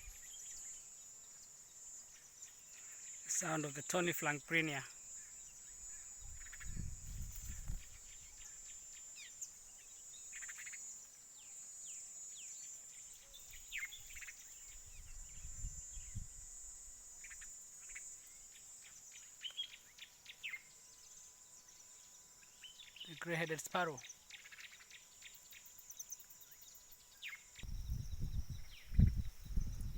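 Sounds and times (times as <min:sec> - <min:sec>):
high insect drone: 0:00.0 - 0:29.9.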